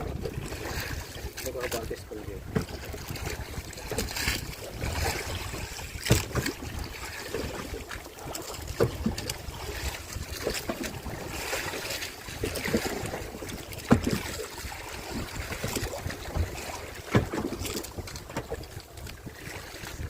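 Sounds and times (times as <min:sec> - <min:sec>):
water sloshing and splashing: 0:00.0 - 0:20.0
wind buffeting microphone: 0:00.0 - 0:20.0.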